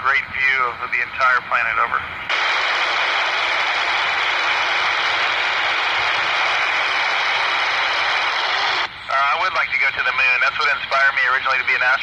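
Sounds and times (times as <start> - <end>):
radio static hissing: 0.7 - 12.0.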